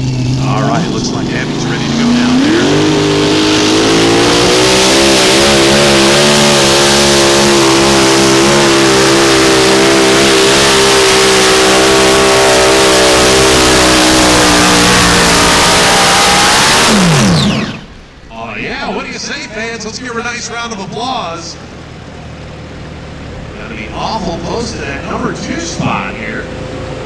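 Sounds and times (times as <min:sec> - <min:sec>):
tractor engine at full throttle: 0:00.0 - 0:27.0.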